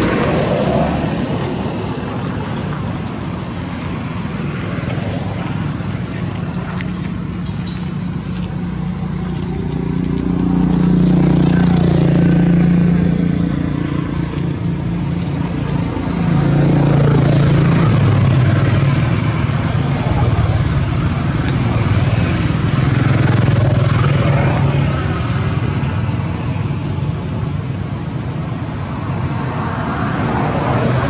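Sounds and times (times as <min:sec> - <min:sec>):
outdoor noise: 0:00.0 - 0:31.0
vehicle engine humming: 0:00.0 - 0:31.0.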